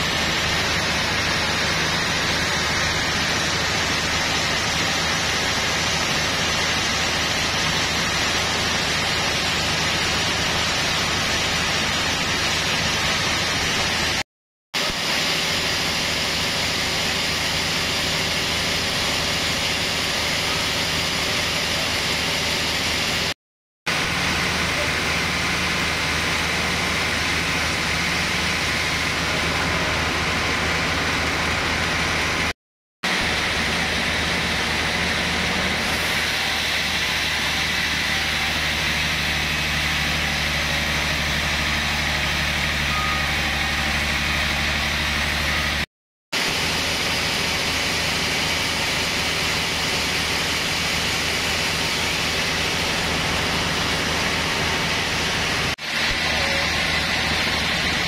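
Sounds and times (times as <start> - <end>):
sawmill machinery humming: 0.0 - 14.2, 14.8 - 58.0.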